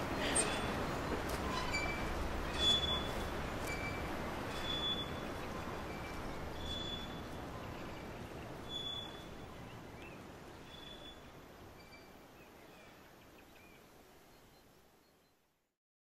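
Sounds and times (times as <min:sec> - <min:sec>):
outdoor ambient noise: 0:00.0 - 0:15.7.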